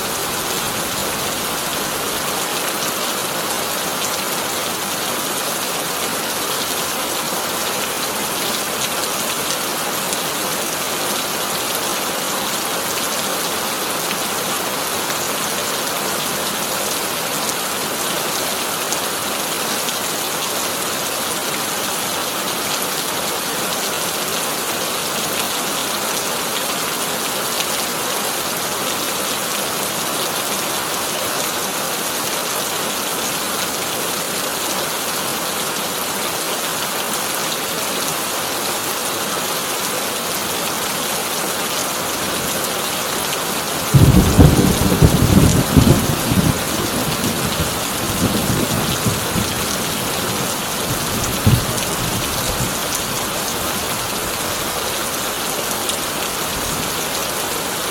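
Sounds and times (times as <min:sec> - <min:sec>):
heavy rain on a tin roof: 0:00.0 - 0:57.9.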